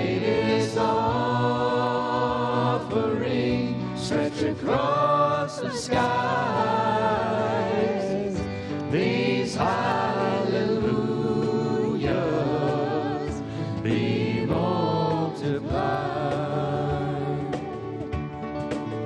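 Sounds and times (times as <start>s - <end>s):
voices singing together: 0.0s - 18.3s
guitars: 0.0s - 19.0s
piano: 0.0s - 19.0s.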